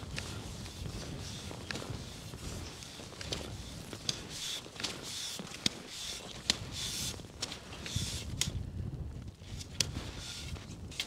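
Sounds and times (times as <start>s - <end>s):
skis swishing through snow: 0.0s - 8.5s, 9.4s - 11.0s.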